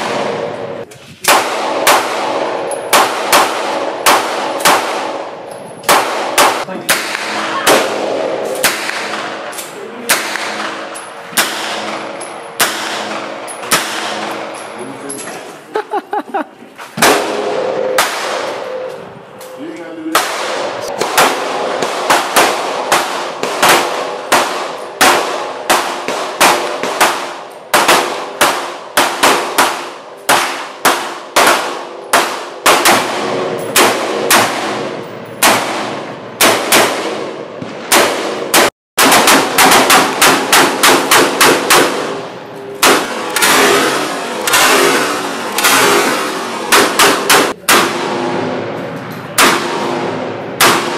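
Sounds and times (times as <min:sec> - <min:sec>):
gunshots with echo: 0:00.0 - 0:14.8, 0:17.0 - 0:18.9, 0:20.0 - 0:50.9.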